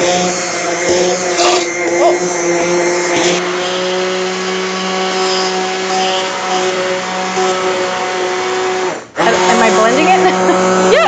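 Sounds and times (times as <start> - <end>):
immersion blender motor humming: 0.0 - 11.0.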